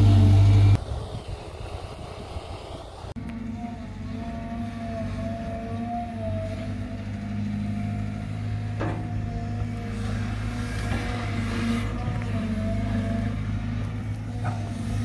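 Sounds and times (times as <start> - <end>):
excavator diesel engine drone: 0.0 - 15.0.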